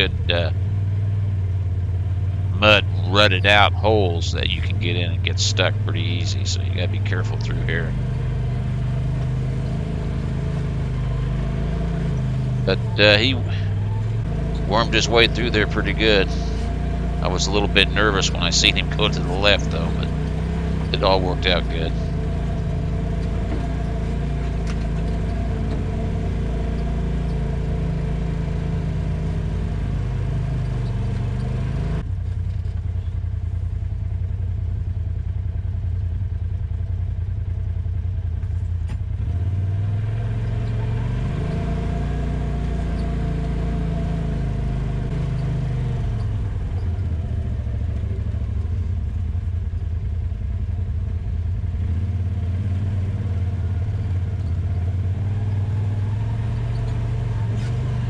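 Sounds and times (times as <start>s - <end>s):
off-road vehicle engine revving: 0.0s - 33.1s, 38.4s - 49.9s, 50.8s - 58.0s
vehicle rattling: 0.0s - 58.0s.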